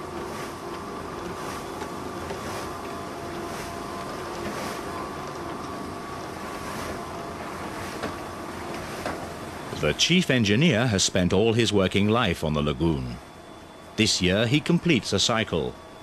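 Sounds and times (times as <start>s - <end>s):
machine mechanical drone: 0.0s - 16.0s.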